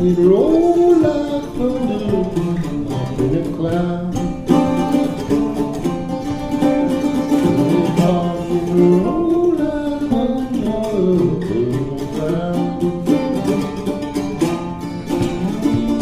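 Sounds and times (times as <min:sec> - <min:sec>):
mandola picked and strummed: 0:00.0 - 0:16.0.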